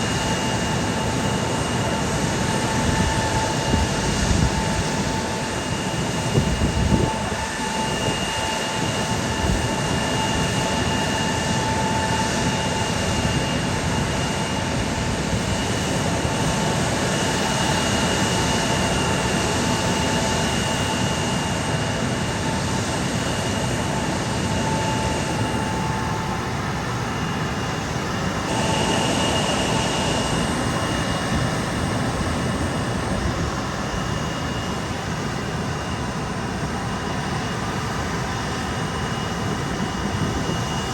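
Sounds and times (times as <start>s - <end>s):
aircraft turbine engines whining: 0.0s - 40.9s.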